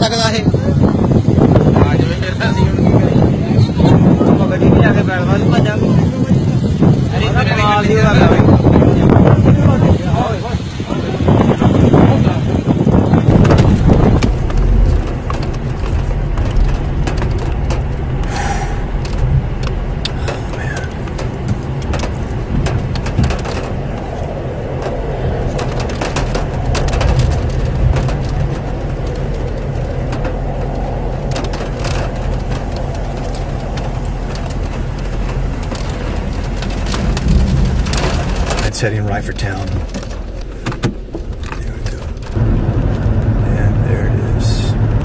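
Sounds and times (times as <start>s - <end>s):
wind rumbling on microphone: 0.0s - 45.0s.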